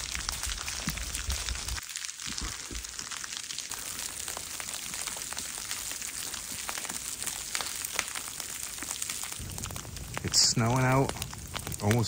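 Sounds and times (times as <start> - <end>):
wet snow pattering on tarp: 0.0 - 12.0.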